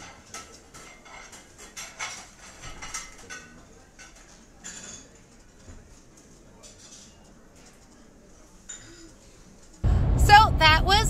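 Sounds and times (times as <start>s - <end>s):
dishes and cutlery clinking: 0.0s - 9.8s.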